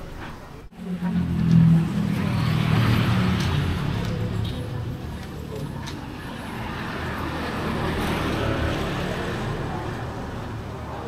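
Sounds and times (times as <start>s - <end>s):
road traffic passing: 0.2s - 11.0s.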